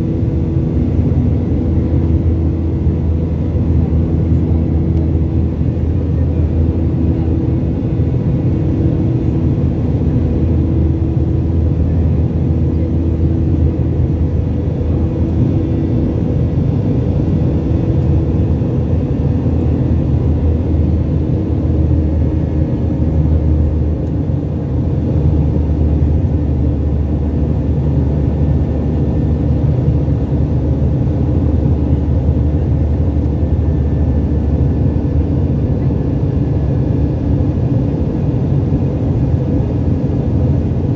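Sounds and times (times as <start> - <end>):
jet engine and airflow rumble: 0.0 - 40.9.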